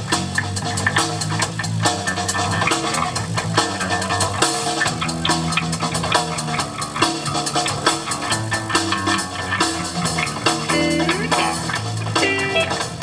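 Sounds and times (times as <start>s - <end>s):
drum and cymbal beat: 0.0s - 13.0s
plucked electric bass notes: 0.0s - 13.0s.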